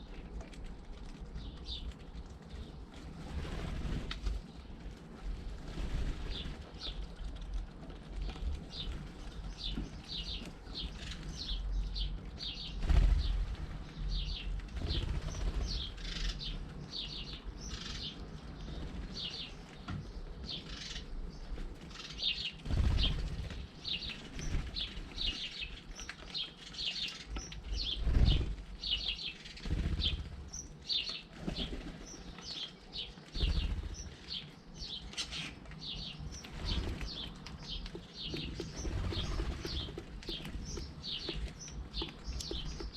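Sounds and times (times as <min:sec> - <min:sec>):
bird wingbeats fluttering: 0:00.0 - 0:42.9
birds chirping: 0:00.0 - 0:42.9.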